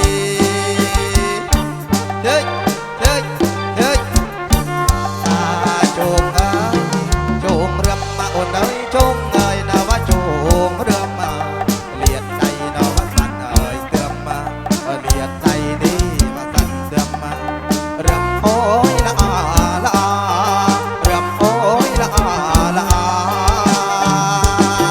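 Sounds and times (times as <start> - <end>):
driving drumbeat: 0.0 - 24.9
melody bending in pitch: 0.0 - 24.9.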